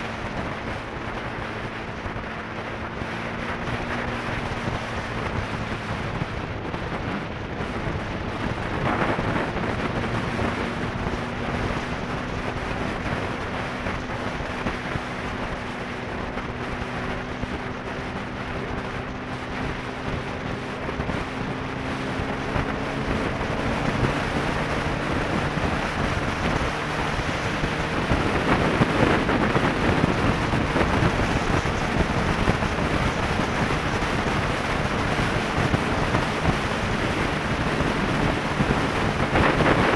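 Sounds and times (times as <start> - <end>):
motorcycle engine cruising: 0.0 - 39.9
wind rushing on microphone: 0.0 - 39.9.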